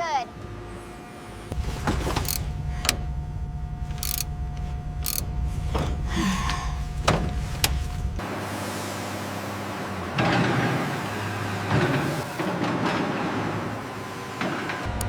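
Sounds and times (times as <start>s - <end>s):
heavy machinery rumbling: 1.0s - 15.0s.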